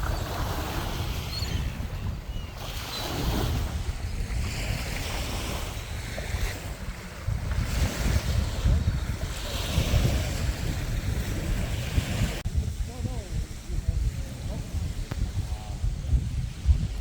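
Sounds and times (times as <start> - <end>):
sea waves: 0.0 - 17.0
wind buffeting microphone: 0.0 - 17.0.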